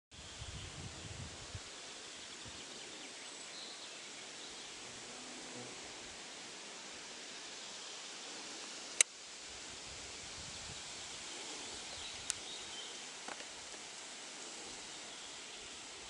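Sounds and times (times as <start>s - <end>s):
wind rustling leaves: 0.1s - 16.0s.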